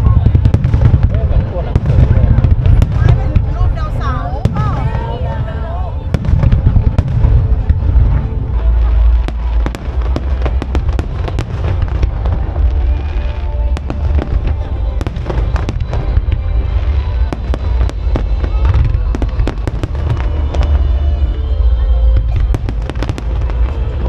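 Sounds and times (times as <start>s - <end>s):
fireworks cracking and banging: 0.0s - 21.6s, 22.2s - 24.0s
deep booming rumble: 0.0s - 24.0s
music playing: 0.0s - 24.0s.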